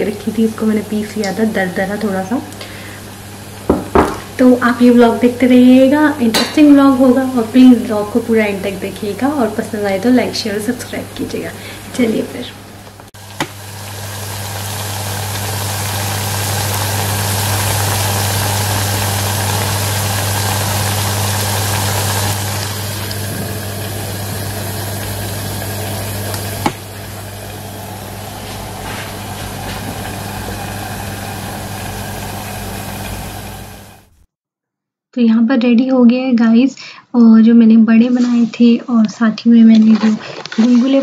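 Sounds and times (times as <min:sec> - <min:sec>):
electric motor hum: 0:00.0 - 0:34.2.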